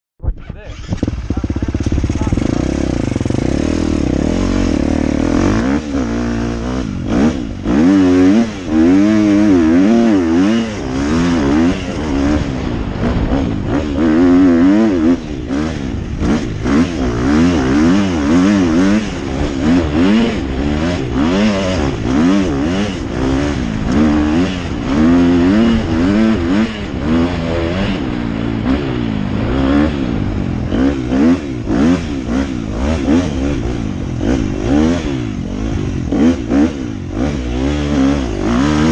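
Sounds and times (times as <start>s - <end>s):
dirt bike engine revving: 0.4s - 38.9s.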